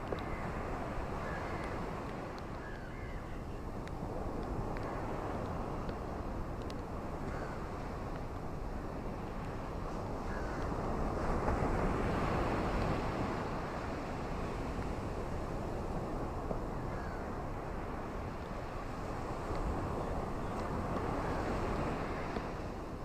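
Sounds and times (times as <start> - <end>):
ocean waves washing onto beach: 0.0 - 23.0.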